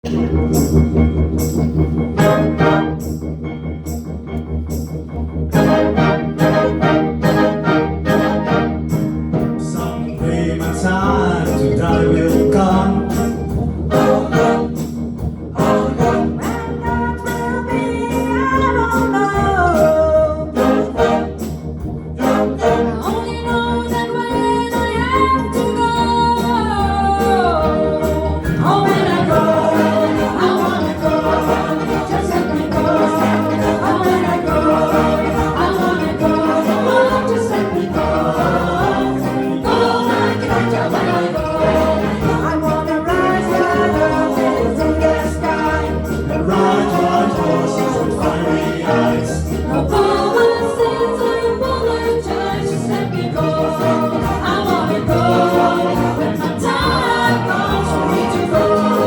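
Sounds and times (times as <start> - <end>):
musical accompaniment with beat: 0.0 - 59.0
choir singing gospel song: 2.2 - 3.2, 5.5 - 59.0.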